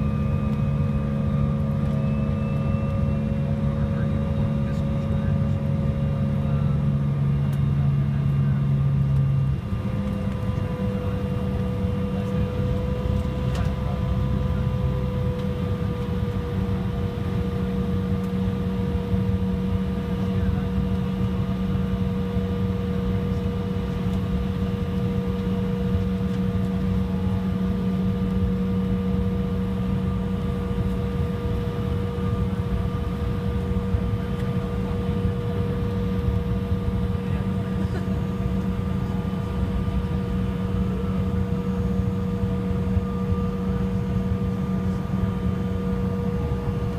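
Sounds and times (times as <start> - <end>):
aircraft cabin hum and whine: 0.0 - 46.9.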